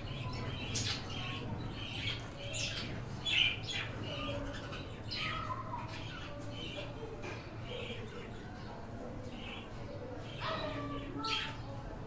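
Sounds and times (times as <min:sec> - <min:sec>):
birds squawking and chirping: 0:00.0 - 0:12.0.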